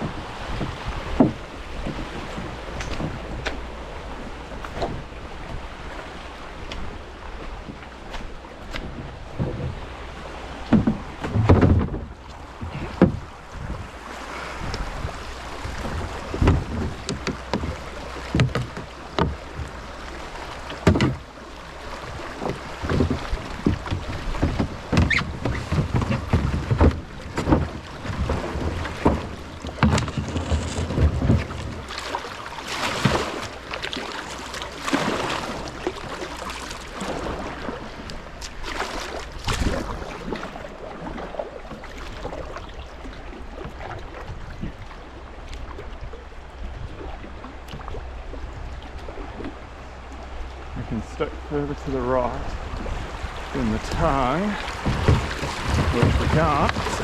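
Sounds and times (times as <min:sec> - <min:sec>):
paddle knocking against hull: 0:00.0 - 0:57.0
paddle splashes: 0:00.0 - 0:57.0
running water: 0:00.0 - 0:57.0.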